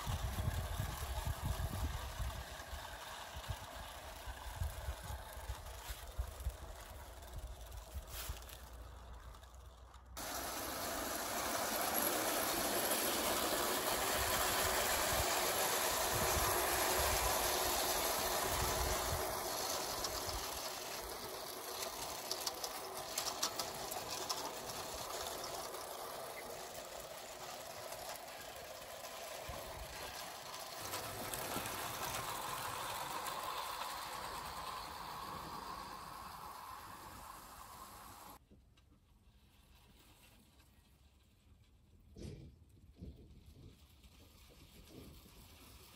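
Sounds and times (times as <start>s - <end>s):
clockwork spring motor whirring: 0.0s - 38.4s
toy train wheels rattling on rails: 0.0s - 38.4s.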